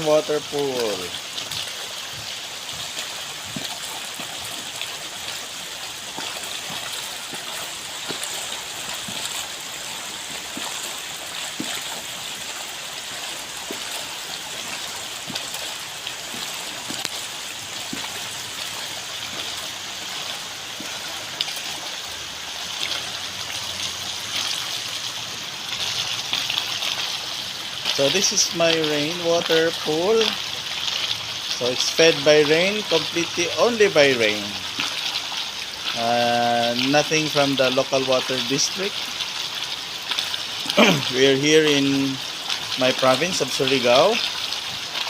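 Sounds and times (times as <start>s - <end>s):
water running into pool: 0.0s - 45.0s.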